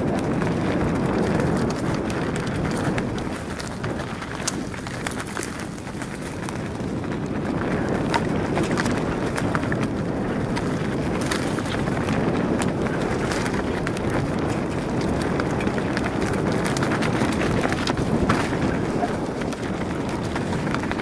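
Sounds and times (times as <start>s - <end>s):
bike tyres rumbling on dirt: 0.0s - 21.0s.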